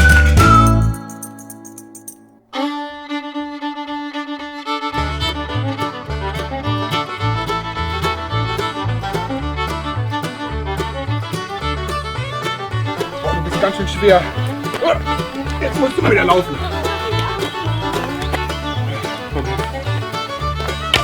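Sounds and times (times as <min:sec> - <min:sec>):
upbeat tune with pulsing bass: 0:00.0 - 0:02.2, 0:05.1 - 0:21.0
instrumental music: 0:00.0 - 0:21.0.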